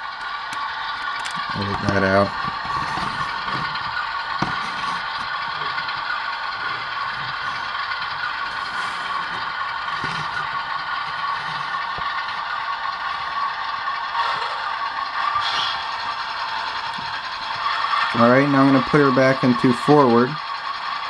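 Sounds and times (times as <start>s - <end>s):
light mechanical rattle: 0.0s - 19.8s
diesel engine sound from small speaker: 0.0s - 21.0s.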